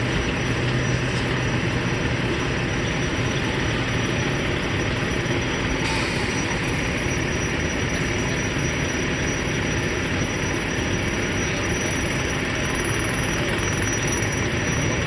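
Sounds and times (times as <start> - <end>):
fire engine pump drone: 0.0 - 15.0.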